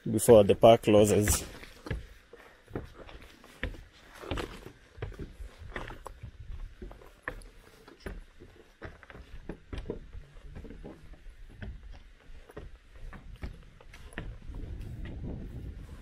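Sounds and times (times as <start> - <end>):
footsteps on wooden stairs: 0.2 - 16.0.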